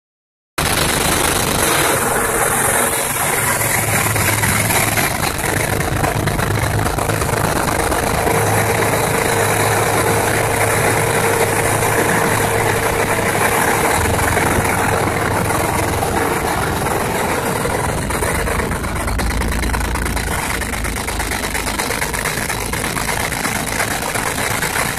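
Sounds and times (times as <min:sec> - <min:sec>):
boat engine humming: 0:00.6 - 0:24.9
water rushing along hull: 0:00.6 - 0:24.9.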